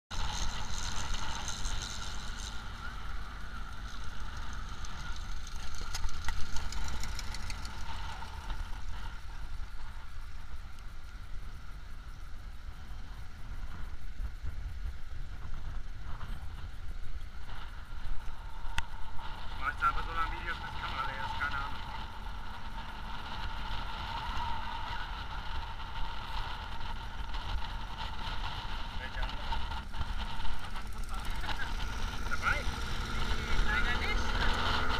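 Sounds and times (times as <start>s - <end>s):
dune buggy engine running: 0.1s - 34.9s
wind rumble on microphone: 0.1s - 34.9s.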